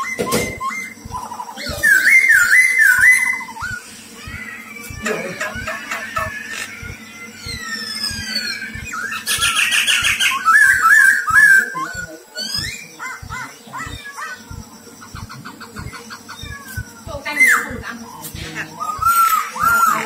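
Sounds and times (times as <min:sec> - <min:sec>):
bird singing: 0:00.0 - 0:20.0
faint low thumps: 0:00.0 - 0:20.0.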